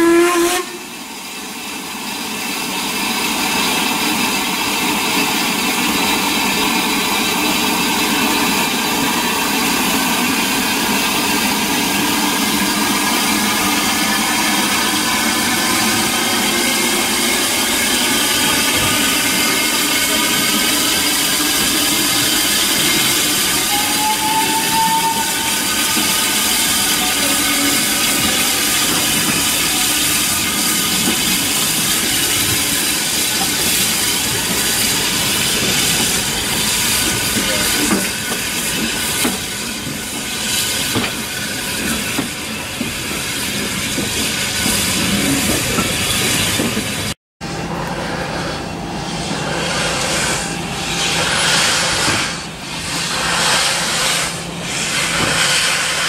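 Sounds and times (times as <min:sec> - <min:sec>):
steam locomotive exhaust: 0:00.0 - 0:56.0
train wheels rolling: 0:02.2 - 0:56.0.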